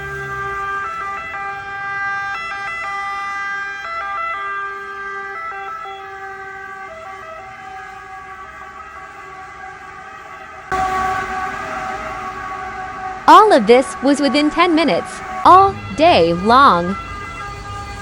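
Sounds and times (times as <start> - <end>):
two-tone emergency sirens: 0.0 - 18.0.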